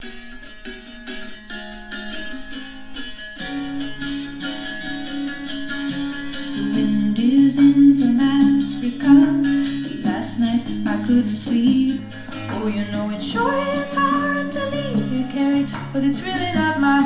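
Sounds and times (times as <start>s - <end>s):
strummed and plucked strings: 0.0s - 17.0s.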